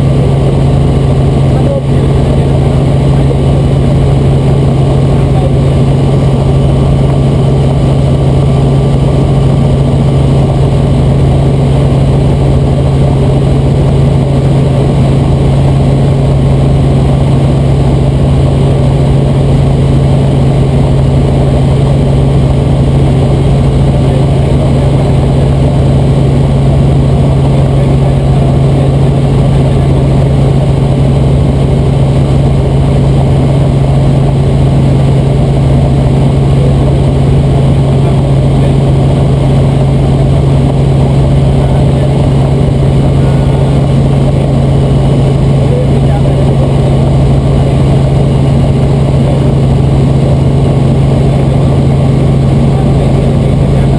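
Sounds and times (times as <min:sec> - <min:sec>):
helicopter rotors and engine drone: 0:00.0 - 0:53.9.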